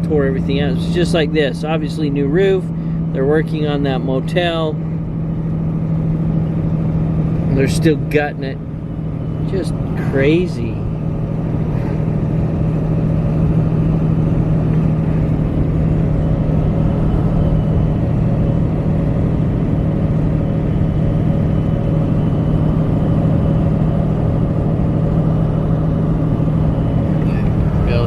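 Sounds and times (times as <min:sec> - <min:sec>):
engine and tyre hum: 0:00.0 - 0:28.0.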